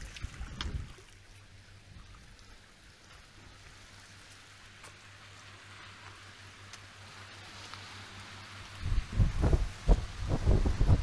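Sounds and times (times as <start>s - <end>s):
surf washing over rocks: 0.0s - 11.0s.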